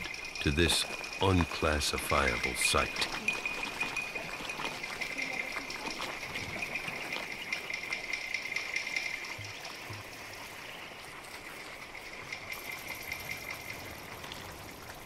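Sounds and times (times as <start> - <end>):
hot spring water bubbling: 0.0 - 15.0.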